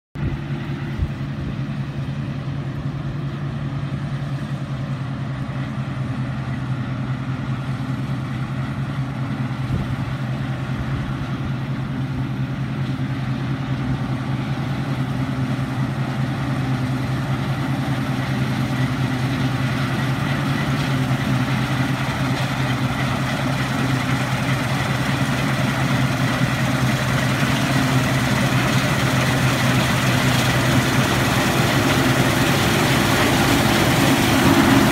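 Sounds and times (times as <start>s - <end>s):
combine harvester running: 0.2s - 34.9s.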